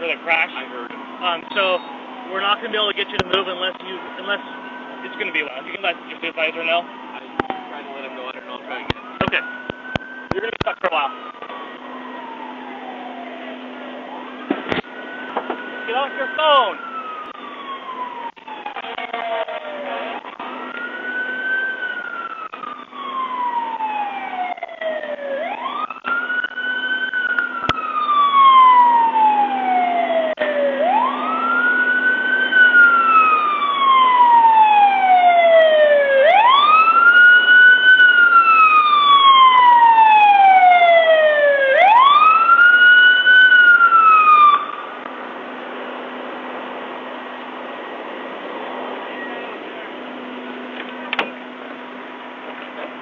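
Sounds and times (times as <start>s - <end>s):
siren wailing: 0.0s - 52.4s.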